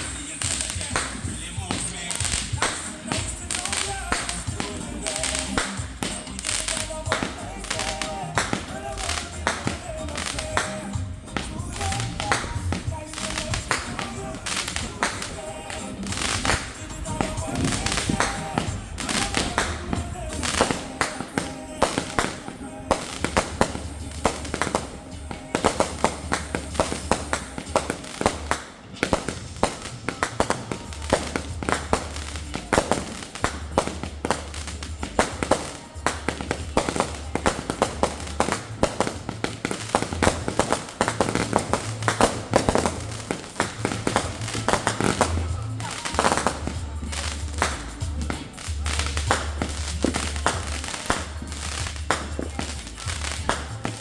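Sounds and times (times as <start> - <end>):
fireworks bursting: 0.0 - 54.0
music with deep bass: 0.0 - 54.0.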